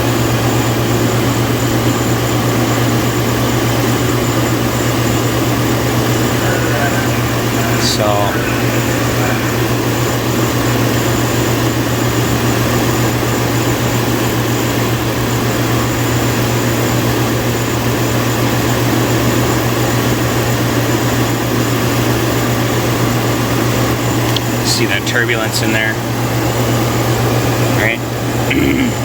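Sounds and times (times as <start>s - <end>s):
misfiring engine idling: 0.0s - 29.0s.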